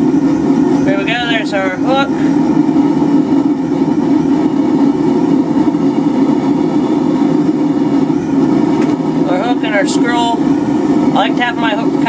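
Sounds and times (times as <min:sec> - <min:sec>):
forge roaring: 0:00.0 - 0:12.0.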